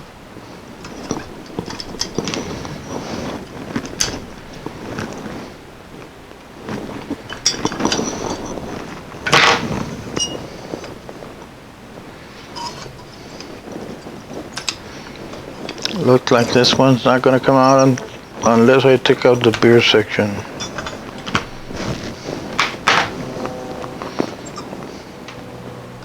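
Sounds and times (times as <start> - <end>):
glass tube rattling: 0.6 - 26.0
clicks and knocks of handling: 0.8 - 25.7.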